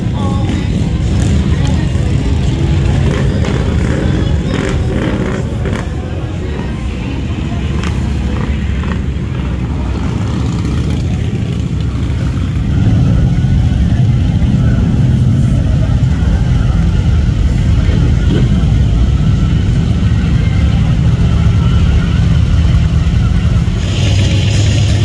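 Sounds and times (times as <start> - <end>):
motorcycle engines rumbling: 0.0 - 25.0.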